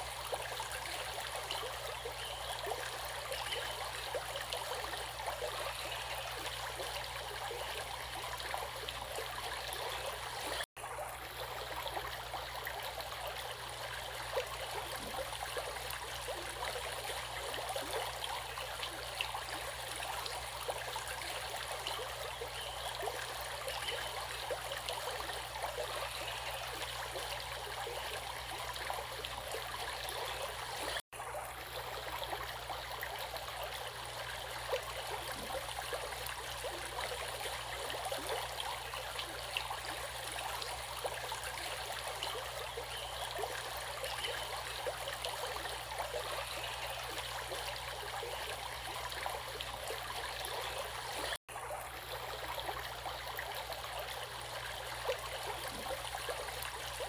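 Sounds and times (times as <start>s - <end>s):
stream flowing and bubbling: 0.0s - 57.0s.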